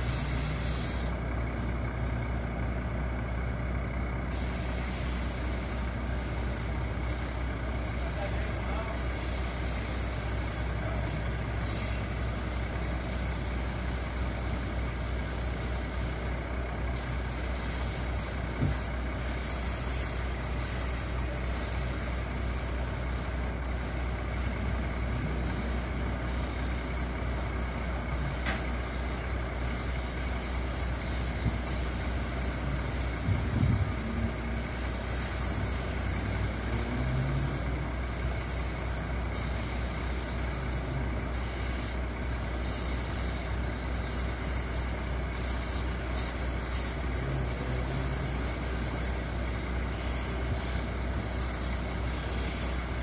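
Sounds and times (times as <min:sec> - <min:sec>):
air compressor engine running: 0:00.0 - 0:53.0.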